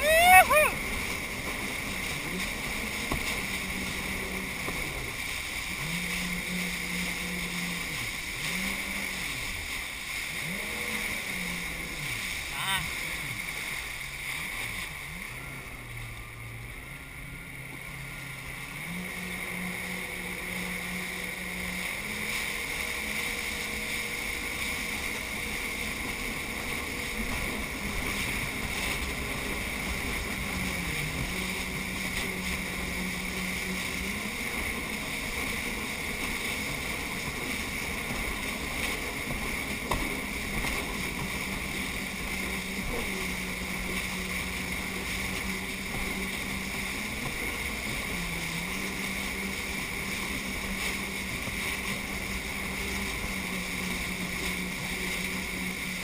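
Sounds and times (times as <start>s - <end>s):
jet ski engine running: 0.0s - 56.0s
wind and water rushing: 0.0s - 56.0s.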